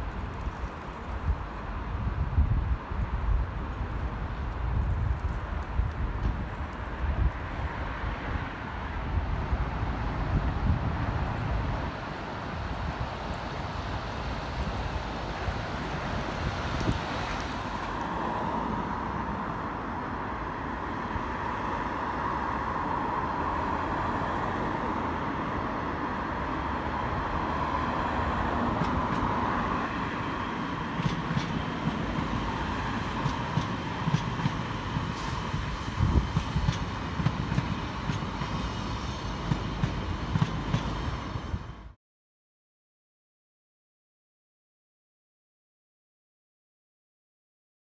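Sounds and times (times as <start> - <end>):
electric train rumbling past: 0.0 - 42.0.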